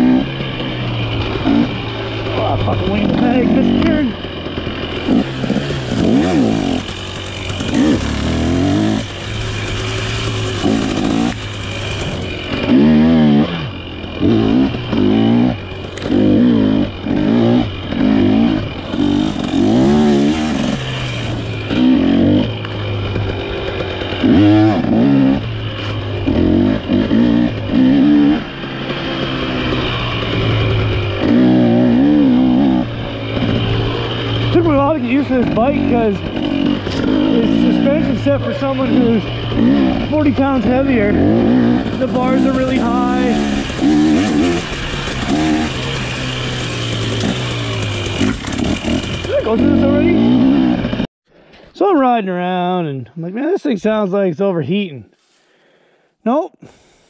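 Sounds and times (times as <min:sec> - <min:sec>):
dirt bike engine revving: 0:00.0 - 0:51.1.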